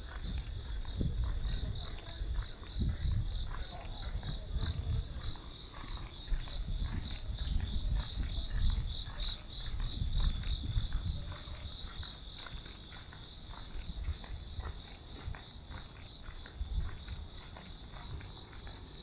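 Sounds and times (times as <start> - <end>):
footsteps on stone paving: 0.0 - 19.0
insects chirping in a trill: 0.0 - 19.0.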